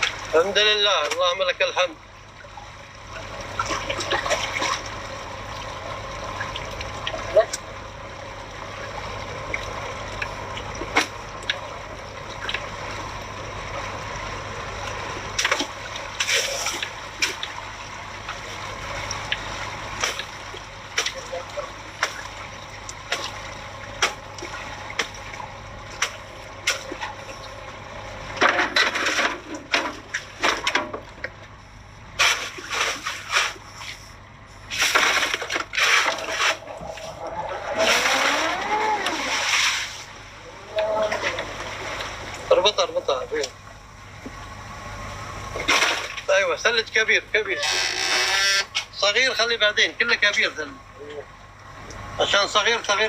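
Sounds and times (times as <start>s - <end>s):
low hum: 0.0s - 53.0s
water splashing and sloshing: 0.0s - 53.0s.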